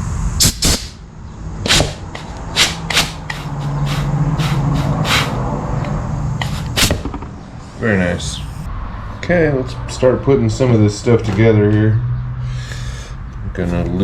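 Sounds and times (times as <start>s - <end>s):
low hum: 0.0s - 11.3s.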